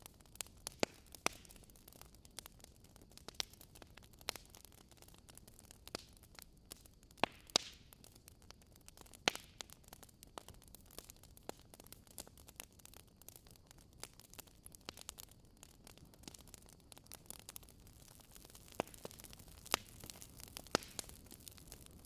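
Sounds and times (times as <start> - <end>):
wood fire crackling in fireplace: 0.0 - 22.0.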